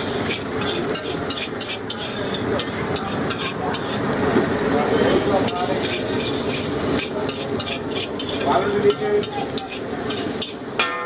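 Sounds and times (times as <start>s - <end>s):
food sizzling: 0.0s - 11.0s
metal spatula scraping a wok: 0.0s - 11.0s.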